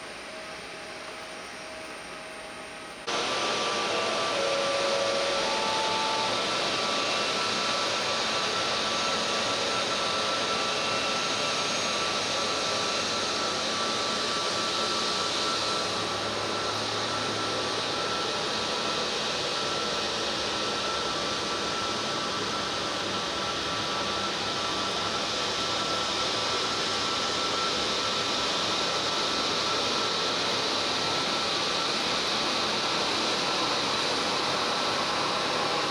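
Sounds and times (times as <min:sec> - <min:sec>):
faint high whine: 0:00.0 - 0:35.8
jet engines rushing: 0:03.0 - 0:35.9.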